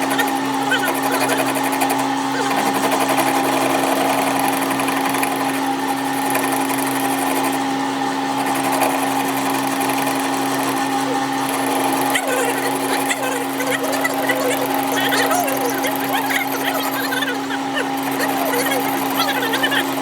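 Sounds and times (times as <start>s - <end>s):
machine motor humming: 0.0s - 20.0s.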